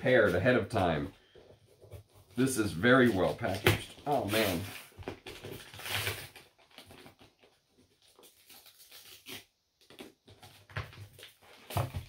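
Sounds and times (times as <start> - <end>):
cardboard parcel rustling: 0.1 - 12.0.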